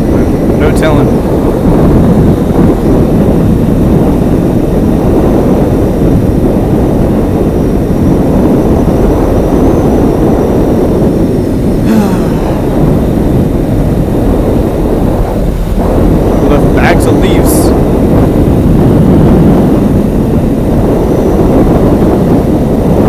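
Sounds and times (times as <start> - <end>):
motorcycle engine cruising: 0.0 - 22.9
wind rush on microphone: 0.0 - 23.0.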